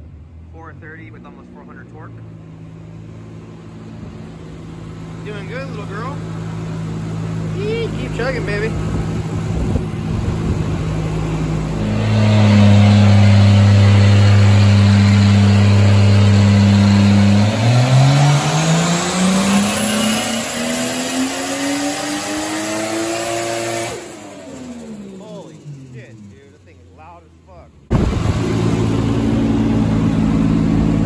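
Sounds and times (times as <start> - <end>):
turbocharged engine at full throttle: 0.0 - 31.0.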